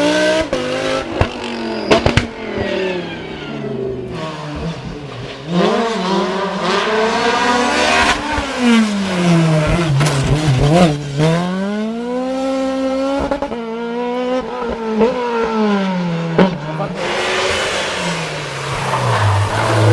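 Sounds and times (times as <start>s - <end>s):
race car engine revving: 0.0s - 19.9s.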